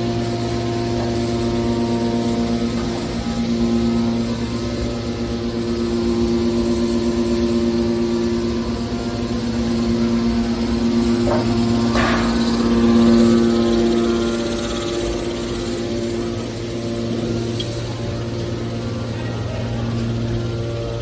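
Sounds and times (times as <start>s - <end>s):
hydraulic baler humming: 0.0s - 21.0s.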